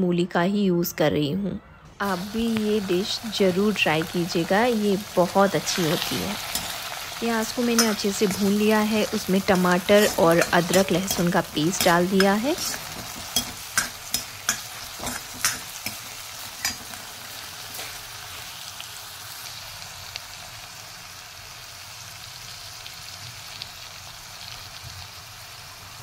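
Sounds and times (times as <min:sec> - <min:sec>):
food sizzling in oil: 0:02.0 - 0:26.0.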